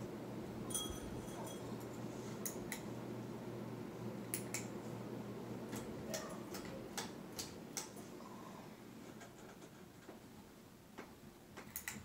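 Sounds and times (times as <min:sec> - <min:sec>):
fan motor hum: 0:00.0 - 0:12.0.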